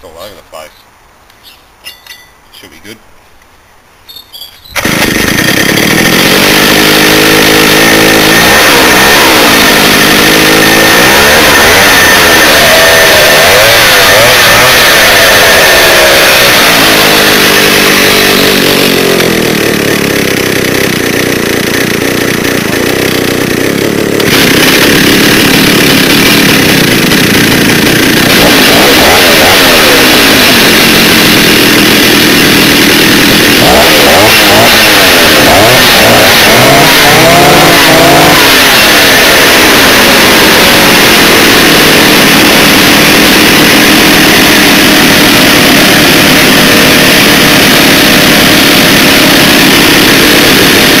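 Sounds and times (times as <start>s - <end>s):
chainsaw engine revving: 4.7s - 51.0s.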